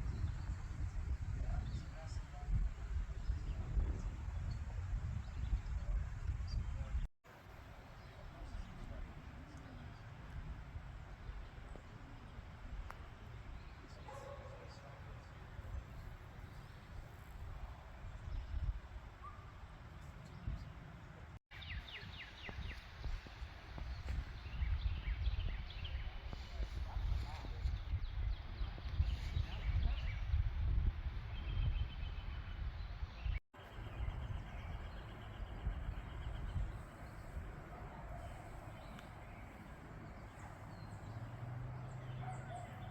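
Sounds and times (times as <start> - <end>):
wind rumble on microphone: 0.0 - 7.1, 7.7 - 42.9.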